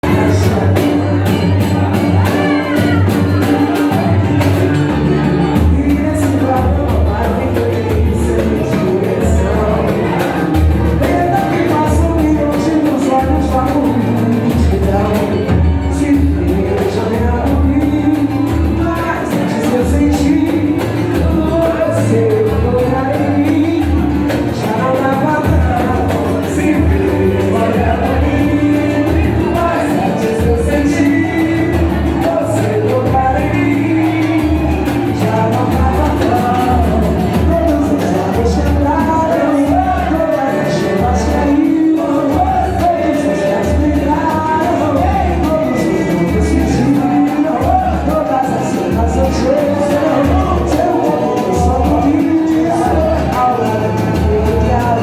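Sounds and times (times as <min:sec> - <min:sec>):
bass line: 0:00.0 - 0:55.0
percussion: 0:00.0 - 0:55.0
person singing: 0:00.0 - 0:55.0.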